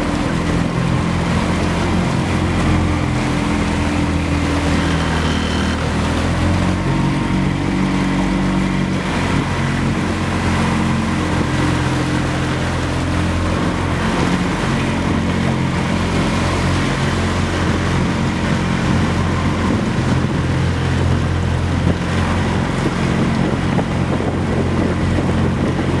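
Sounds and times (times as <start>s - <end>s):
motorboat engine running: 0.0s - 26.0s
rushing water: 0.0s - 26.0s
wind on microphone: 0.0s - 26.0s.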